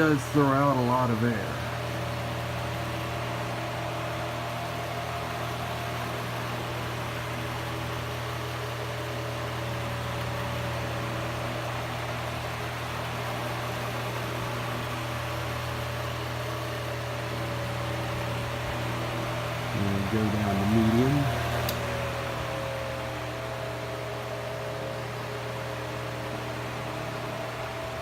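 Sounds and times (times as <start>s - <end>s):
fan motor hum: 0.0s - 28.0s.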